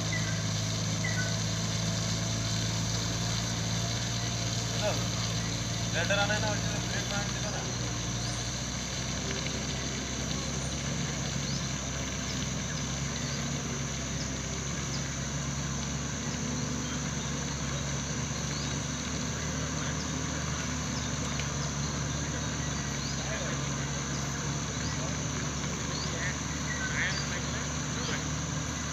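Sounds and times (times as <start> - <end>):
steady high whine: 0.0 - 28.9
vehicle engine and road noise: 0.0 - 28.9.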